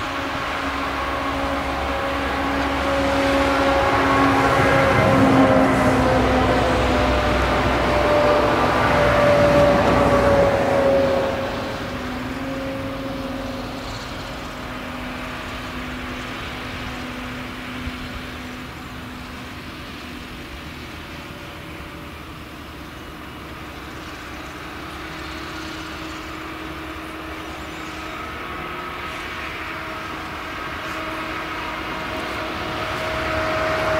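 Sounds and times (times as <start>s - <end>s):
tractor pulling trailer: 0.0s - 33.9s.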